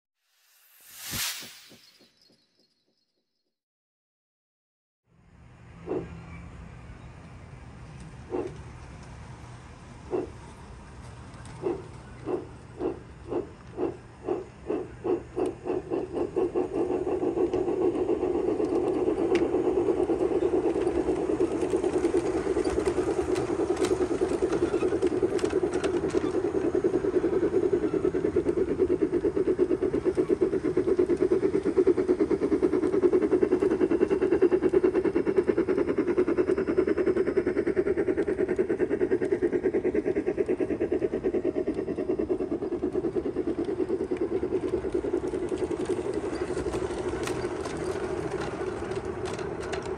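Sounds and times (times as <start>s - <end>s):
model locomotive chuffing: 5.5s - 49.9s
model train wheels on rails: 5.5s - 49.9s.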